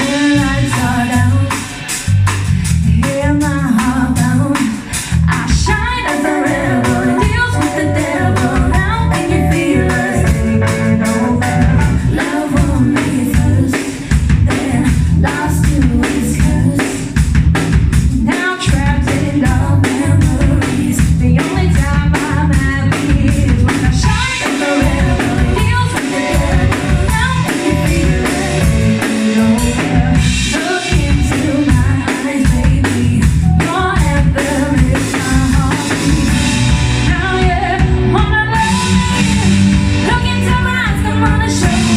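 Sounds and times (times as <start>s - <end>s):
drum kit beat: 0.0s - 41.9s
live band playing: 0.0s - 41.9s
person singing: 3.0s - 17.0s, 18.3s - 36.4s, 37.1s - 41.9s.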